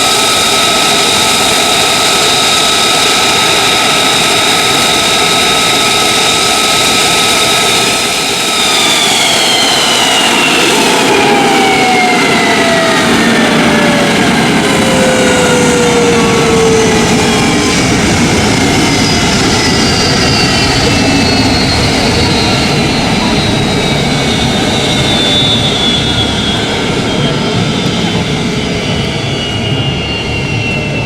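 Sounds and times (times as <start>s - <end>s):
jet engine roar with whine: 0.0s - 31.0s.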